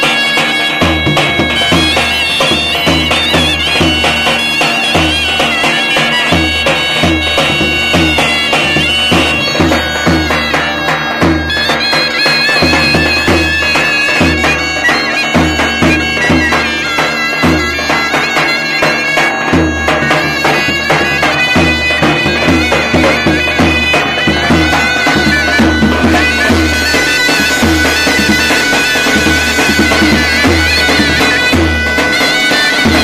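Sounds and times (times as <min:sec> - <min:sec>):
drum beating steady rhythm: 0:00.0 - 0:33.0
ornamented zurna melody: 0:00.0 - 0:33.0
zurna drone: 0:00.0 - 0:33.0.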